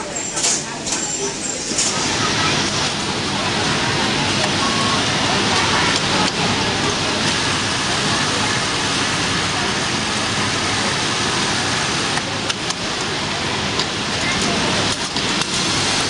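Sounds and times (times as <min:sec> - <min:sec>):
industrial sewing machines running: 0:00.0 - 0:16.0.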